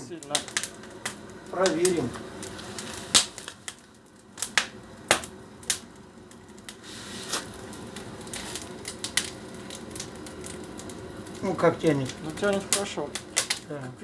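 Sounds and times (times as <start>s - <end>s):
low burning hiss: 0.0s - 14.0s
sharp pops from fire: 0.0s - 14.0s
wood fire crackling: 0.0s - 14.0s.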